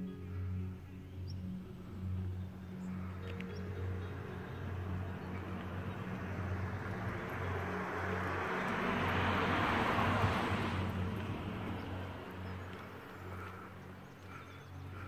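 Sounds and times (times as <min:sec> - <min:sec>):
vehicle passing by: 0:01.7 - 0:15.0.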